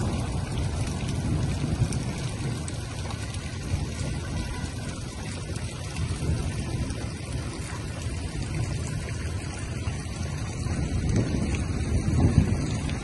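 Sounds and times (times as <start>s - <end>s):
heavy rain on standing water: 0.0s - 13.0s.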